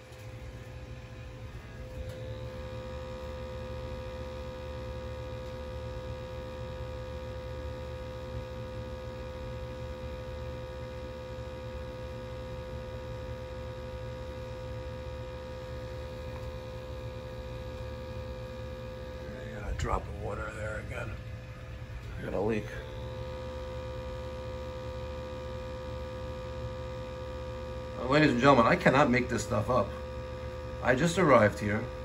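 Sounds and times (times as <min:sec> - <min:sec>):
electric pump humming: 0:00.0 - 0:32.0.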